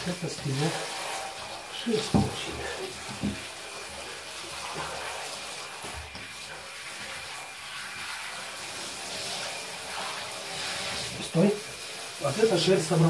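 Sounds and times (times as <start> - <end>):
shower head spraying water: 0.0 - 13.0.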